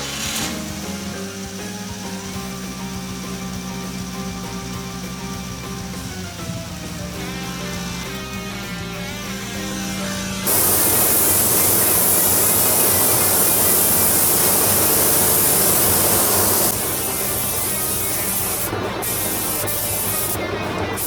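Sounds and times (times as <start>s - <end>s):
spraying hiss: 0.0s - 8.2s, 10.4s - 21.0s
background music: 0.0s - 21.0s.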